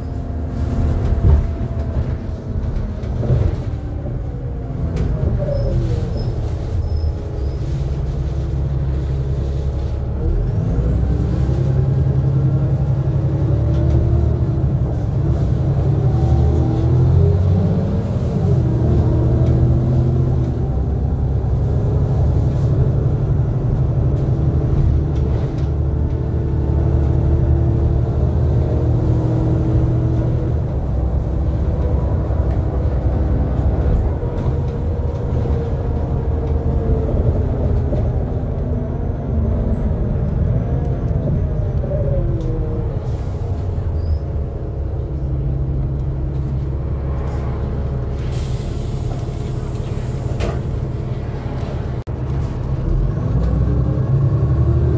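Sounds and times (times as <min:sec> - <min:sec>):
bus engine and road rumble: 0:00.0 - 0:54.9.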